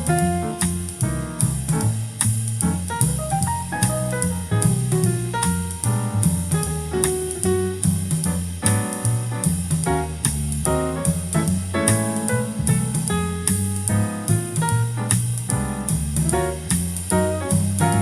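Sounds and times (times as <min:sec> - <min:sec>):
jazz music through speakers: 0:00.0 - 0:18.0.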